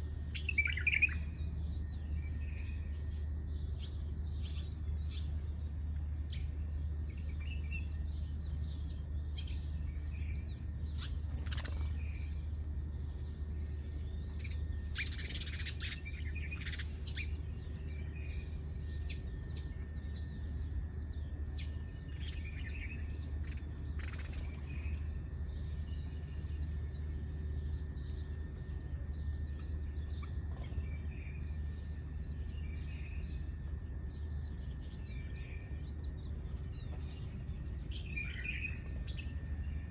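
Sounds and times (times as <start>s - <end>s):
sparrows chirping: 0.0s - 39.9s
steady low hum: 0.0s - 39.9s.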